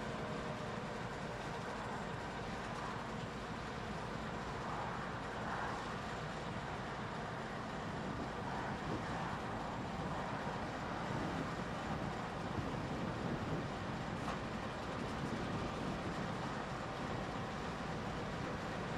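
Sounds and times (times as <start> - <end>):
diesel locomotives rumbling: 0.0 - 18.9.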